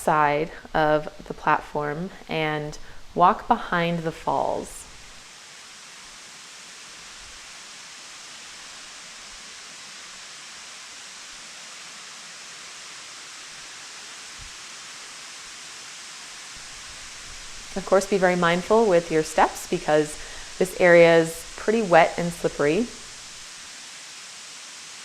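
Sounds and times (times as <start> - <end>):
waterfall hissing: 0.0 - 25.0.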